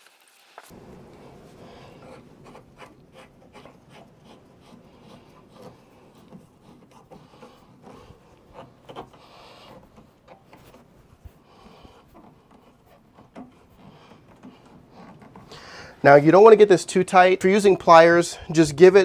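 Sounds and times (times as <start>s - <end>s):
rubbing and small clicks: 1.0s - 16.6s.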